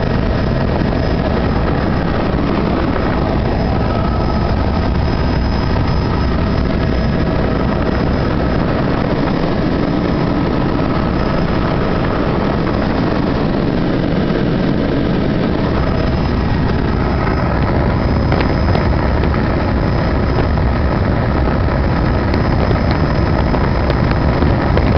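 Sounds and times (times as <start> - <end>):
faint high whine: 0.0 - 24.9
helicopter engine and rotor: 0.0 - 24.9.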